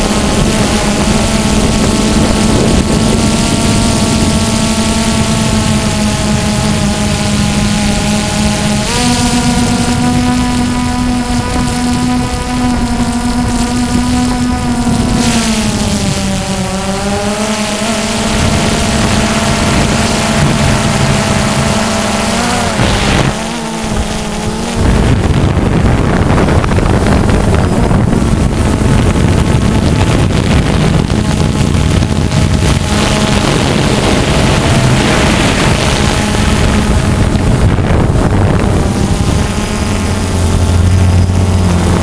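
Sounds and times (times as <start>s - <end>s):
drone propellers buzzing: 0.0s - 42.0s
wind on microphone: 0.0s - 42.0s.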